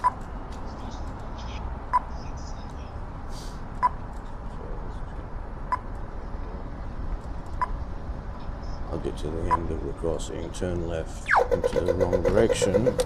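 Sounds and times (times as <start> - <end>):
low traffic noise: 0.0 - 13.0.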